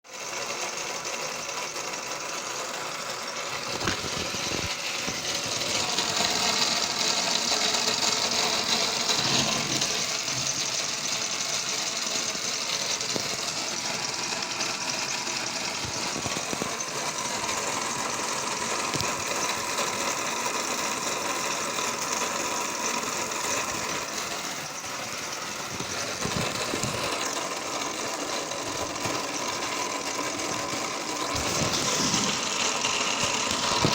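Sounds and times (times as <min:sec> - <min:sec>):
model engine whirring and rattling: 0:00.0 - 0:33.9.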